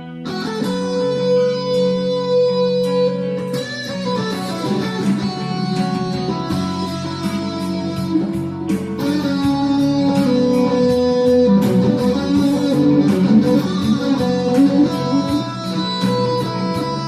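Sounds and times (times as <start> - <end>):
guitar melody: 0.0 - 17.0
backing beat: 0.2 - 17.0.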